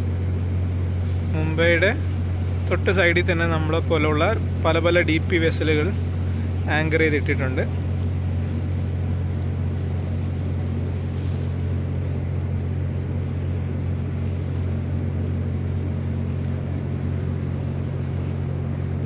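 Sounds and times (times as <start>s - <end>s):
diesel machinery humming: 0.0s - 19.0s
steady hiss: 0.8s - 19.0s.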